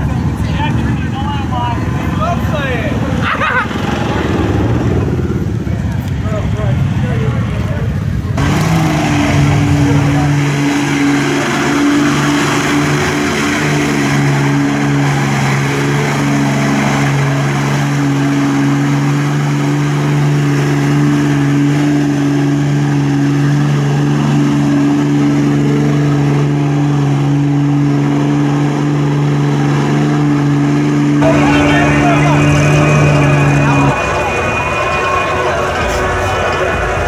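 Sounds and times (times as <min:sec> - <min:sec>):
truck engine running hard: 0:00.0 - 0:37.0.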